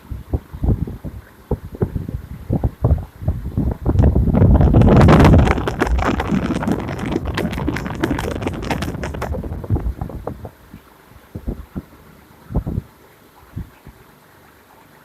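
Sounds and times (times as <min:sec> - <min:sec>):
ceiling fan rattling and clicking: 0:00.0 - 0:14.1.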